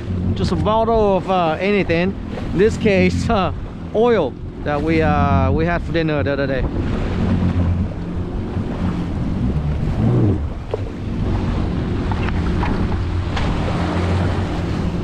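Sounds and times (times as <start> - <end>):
jet ski engine idling: 0.0 - 15.0
sea noise: 0.0 - 15.0
wind buffeting microphone: 0.0 - 15.0.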